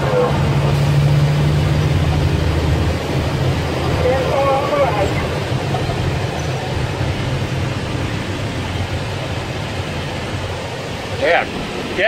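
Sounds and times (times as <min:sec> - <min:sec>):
vehicle engine drone and road noise: 0:00.0 - 0:12.0.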